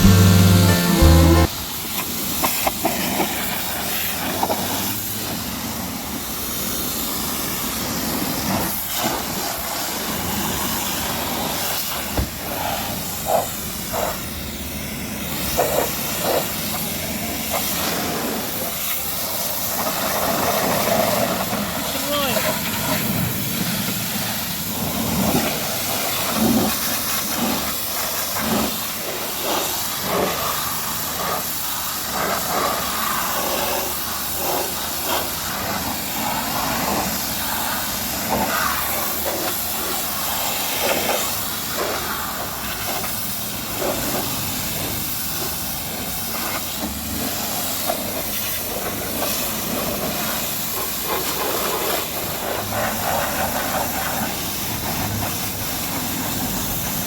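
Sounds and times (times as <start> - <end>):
pressure washer spraying car: 1.8 - 57.0.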